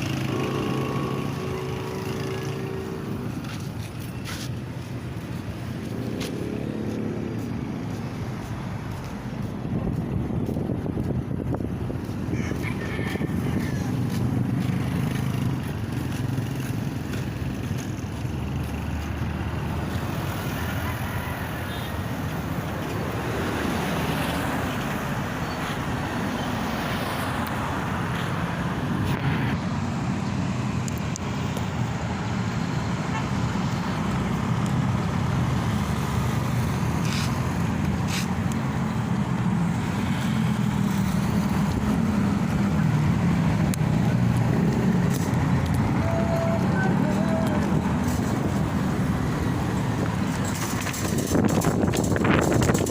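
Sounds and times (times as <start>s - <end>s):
tyres running along road: 0.0s - 52.9s
vehicle engines: 0.0s - 52.9s.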